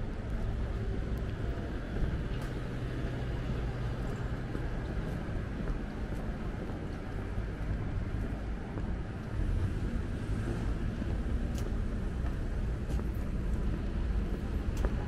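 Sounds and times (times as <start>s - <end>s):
low rumble of city ambience: 0.0s - 15.0s.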